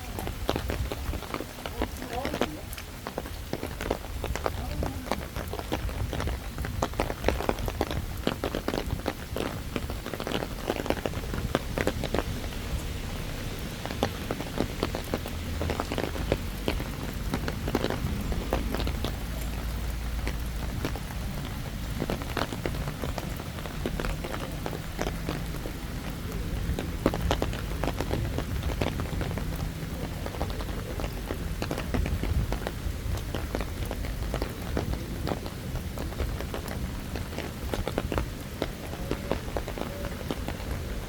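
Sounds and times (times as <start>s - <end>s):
rain drops tapping: 0.0s - 41.0s
rain hiss: 0.0s - 41.0s.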